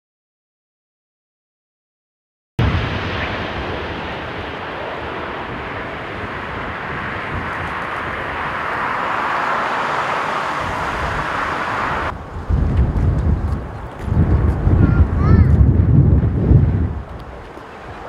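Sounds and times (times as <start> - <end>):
jet engines roaring: 2.6 - 18.0
wind buffeting microphone: 2.6 - 18.0.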